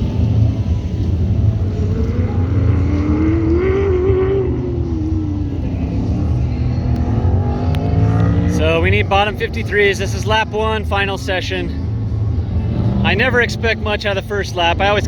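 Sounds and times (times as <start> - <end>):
car engine running: 0.0 - 15.0
steady low rumble: 0.0 - 15.0.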